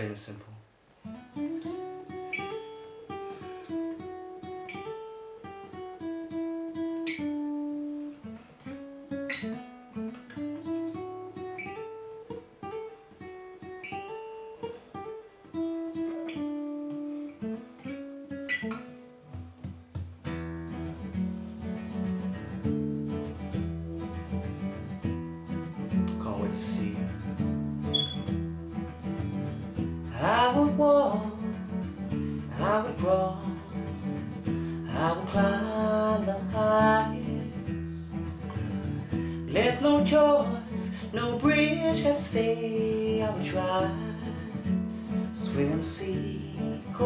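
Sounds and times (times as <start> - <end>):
fingerstyle acoustic guitar: 0.0 - 47.0.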